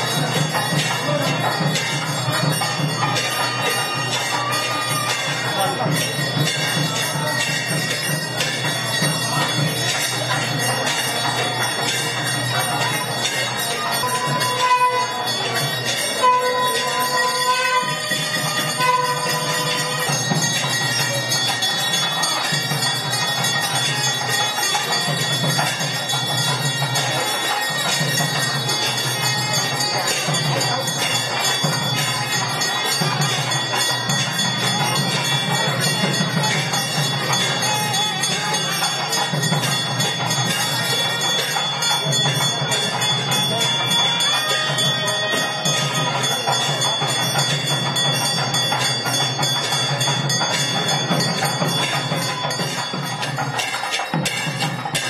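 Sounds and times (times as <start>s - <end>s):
bells ringing: 0.0s - 55.0s
music: 0.0s - 55.0s
voices: 0.0s - 55.0s.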